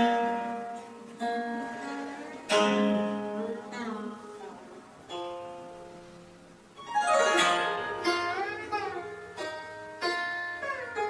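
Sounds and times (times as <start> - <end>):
plucked zither notes: 0.0 - 11.0.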